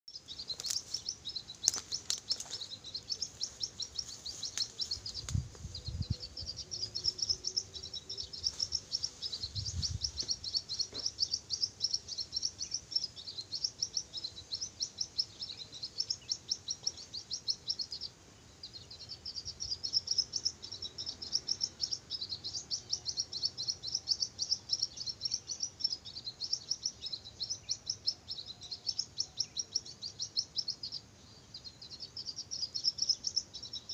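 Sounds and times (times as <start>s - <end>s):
high rapid bird chirping: 0.1s - 33.9s.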